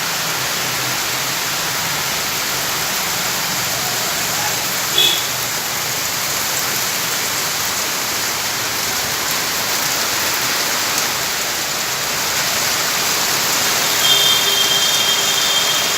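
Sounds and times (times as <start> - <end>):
heavy rain hiss: 0.0 - 15.9.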